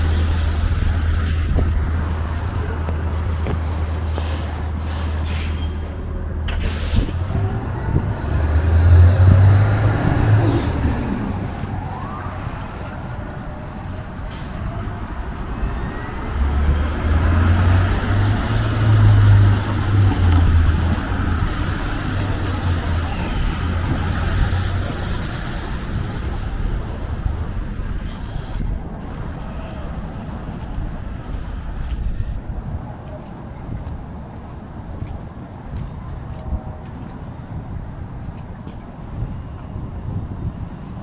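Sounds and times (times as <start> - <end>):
deep engine rumble of passing vehicles: 0.0 - 41.0
street traffic: 0.0 - 41.0.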